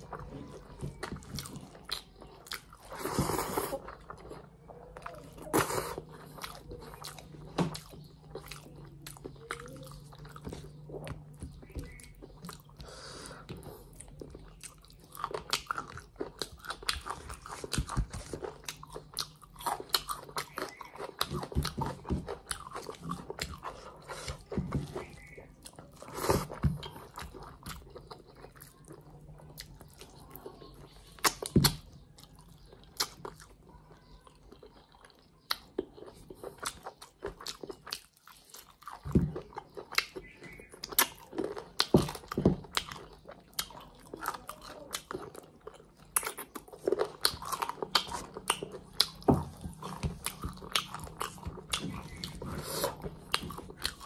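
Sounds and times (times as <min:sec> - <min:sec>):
person chewing with wet smacks: 0:00.0 - 0:54.0.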